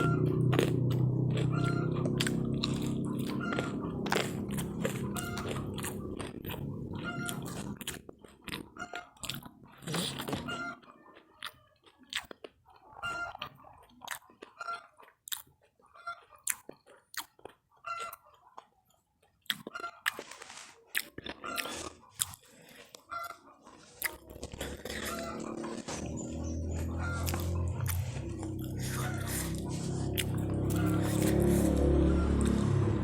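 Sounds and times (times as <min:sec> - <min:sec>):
chewing crunchy fried snacks: 0:00.0 - 0:32.9.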